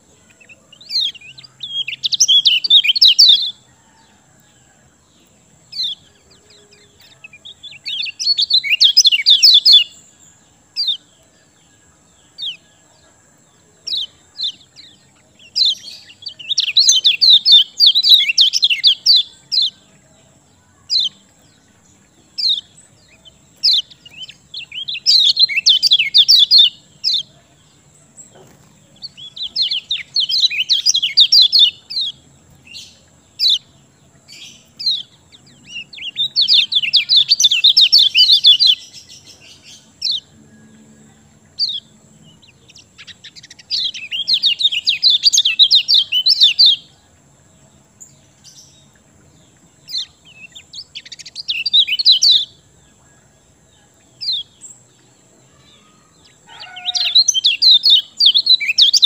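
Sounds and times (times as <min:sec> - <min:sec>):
songbird twittering: 0:00.0 - 0:59.0.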